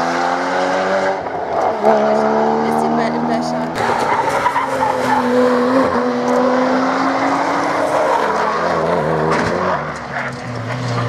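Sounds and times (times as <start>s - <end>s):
sports car engines: 0.0s - 11.0s.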